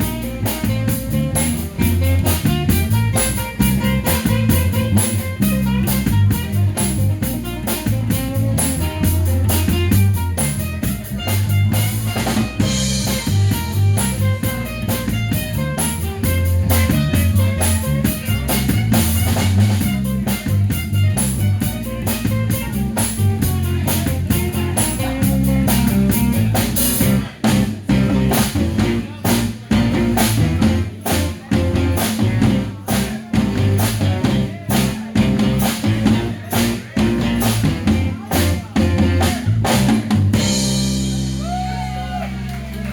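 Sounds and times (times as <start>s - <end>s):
live band playing: 0.0s - 42.9s.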